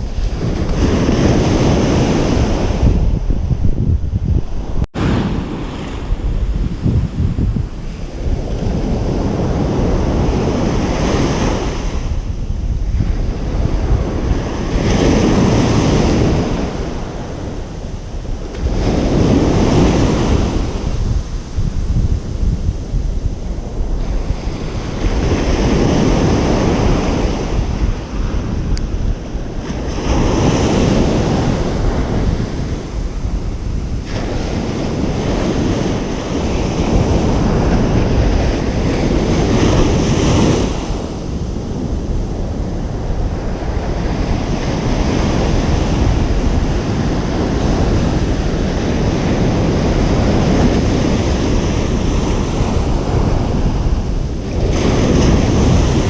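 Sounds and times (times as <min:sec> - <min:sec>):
ocean waves breaking: 0:00.0 - 0:56.0
wind buffeting microphone: 0:00.0 - 0:56.0.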